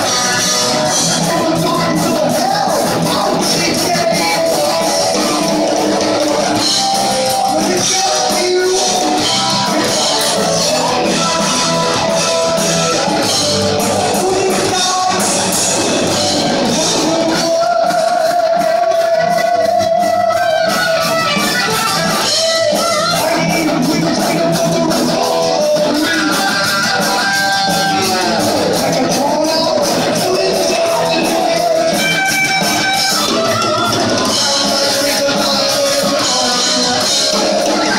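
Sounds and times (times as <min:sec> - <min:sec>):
heavy metal band playing live: 0:00.0 - 0:37.9.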